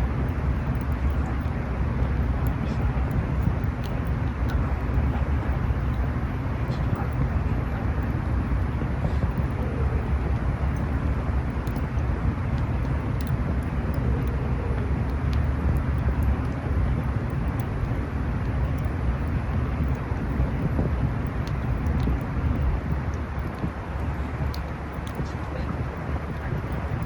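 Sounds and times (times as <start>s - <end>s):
campfire rumble: 0.0s - 27.0s
fire crackles: 0.0s - 27.0s.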